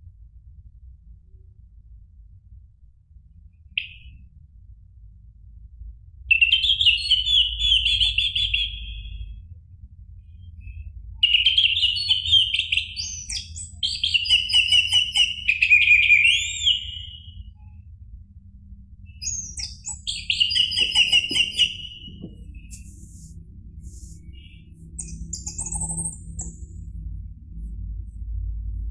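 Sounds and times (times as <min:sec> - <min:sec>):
faint low hum: 0:00.0 - 0:28.9.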